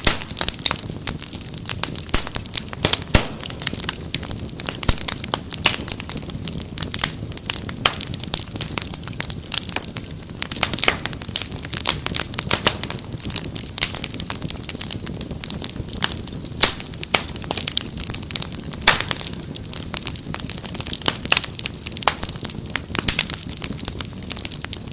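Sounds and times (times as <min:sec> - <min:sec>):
fireplace fire crackling: 0:00.0 - 0:24.9.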